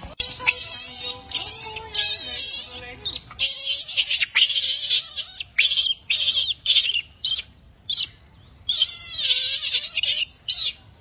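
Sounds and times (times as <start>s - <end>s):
baby monkey screaming: 0.2s - 10.8s.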